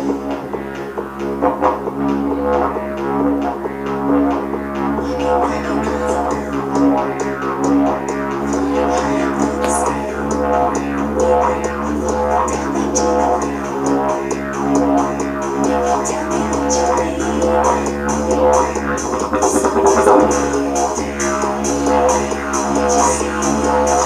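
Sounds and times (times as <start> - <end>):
didgeridoo drone: 0.0 - 24.0.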